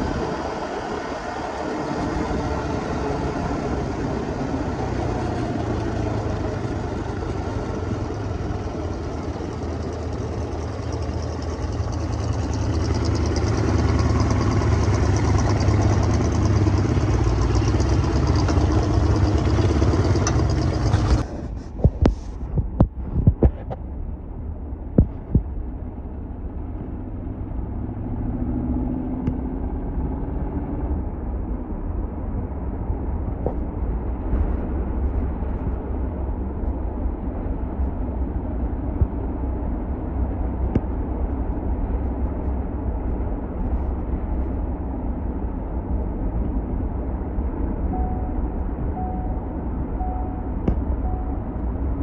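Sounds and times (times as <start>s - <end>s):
road and engine rumble in car: 0.0s - 52.0s.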